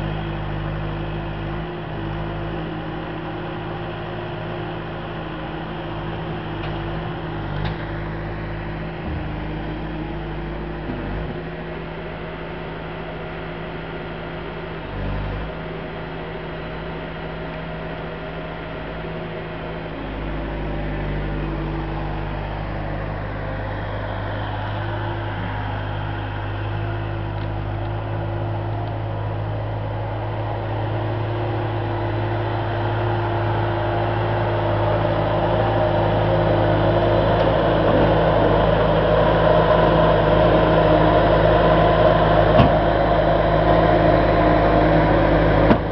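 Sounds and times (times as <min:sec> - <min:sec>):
engine humming: 0:00.0 - 0:45.9.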